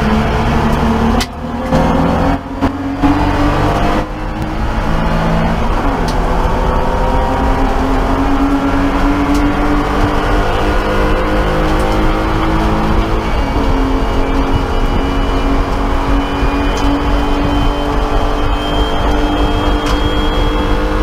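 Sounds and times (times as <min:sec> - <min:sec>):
race car engine at full throttle: 0:00.0 - 0:21.0.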